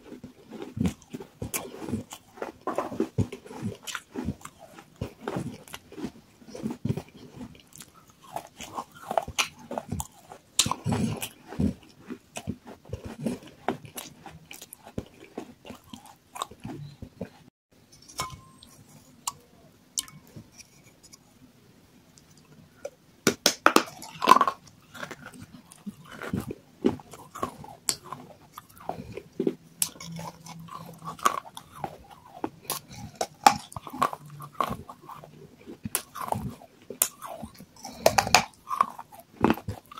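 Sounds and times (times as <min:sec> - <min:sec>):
crunching and chewing clay: 0:00.0 - 0:17.5, 0:22.3 - 0:39.9.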